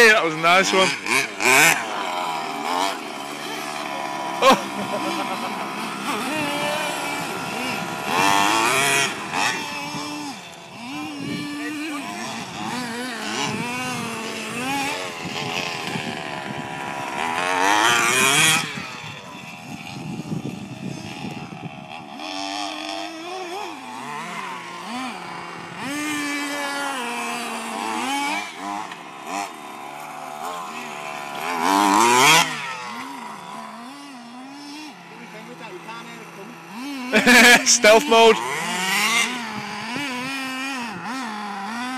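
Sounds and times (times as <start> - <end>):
small two-stroke engines revving: 0.0 - 41.9.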